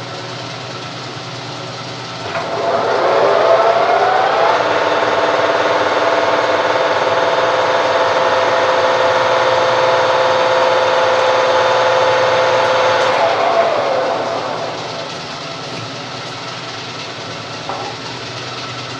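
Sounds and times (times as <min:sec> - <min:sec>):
metal lathe motor whine: 0:02.0 - 0:18.9.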